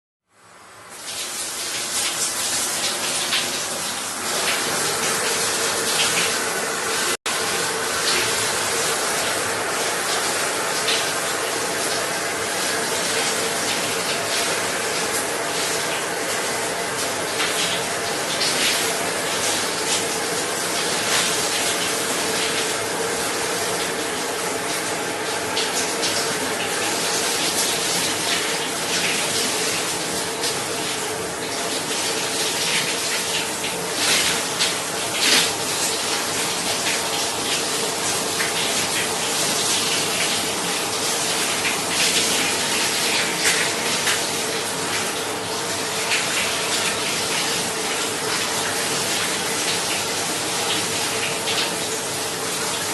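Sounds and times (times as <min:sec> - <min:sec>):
shower water spraying: 0:00.9 - 0:52.9.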